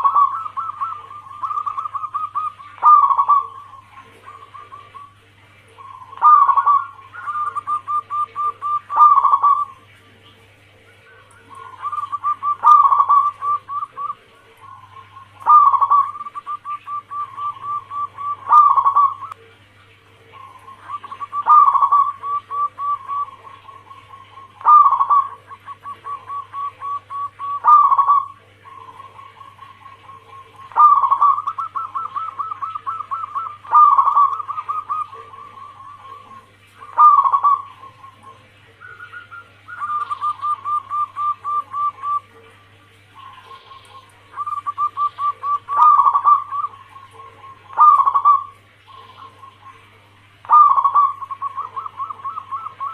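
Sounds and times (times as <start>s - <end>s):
dove cooing: 0.0s - 52.9s
low steady hum: 0.0s - 52.9s.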